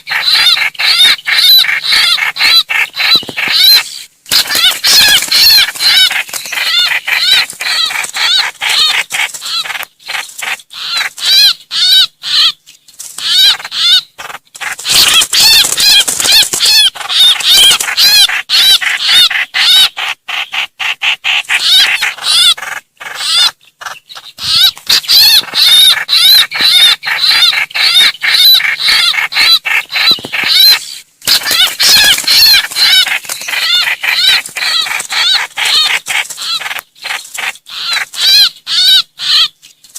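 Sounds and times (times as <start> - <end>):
bird distress calls: 0.0 - 12.6, 13.2 - 39.6.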